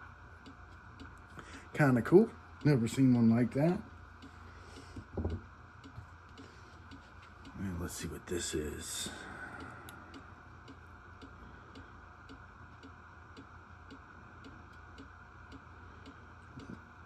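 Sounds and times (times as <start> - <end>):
faint regular ticking: 0.0 - 17.0
low room hum: 0.0 - 17.0.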